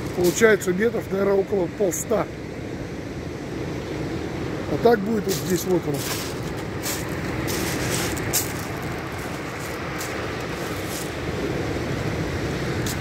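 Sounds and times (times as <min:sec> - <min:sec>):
surf washing over shingle beach: 0:00.0 - 0:13.0.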